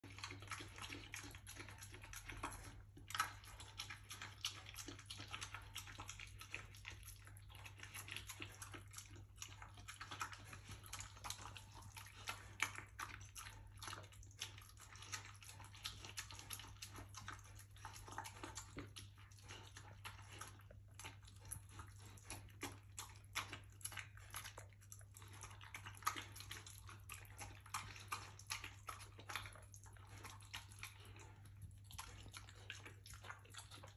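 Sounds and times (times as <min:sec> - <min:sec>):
puppy eating with wet smacking: 0:00.0 - 0:33.9.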